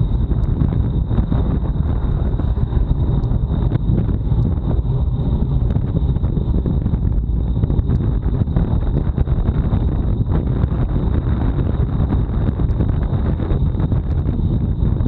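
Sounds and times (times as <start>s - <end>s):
faint high whine: 0.0s - 15.0s
road noise: 0.0s - 15.0s
wind buffeting microphone: 0.0s - 15.0s.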